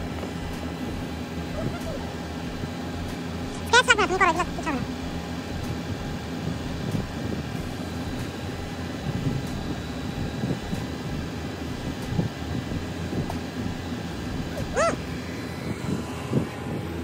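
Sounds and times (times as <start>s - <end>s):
car engine idling: 0.0s - 15.6s.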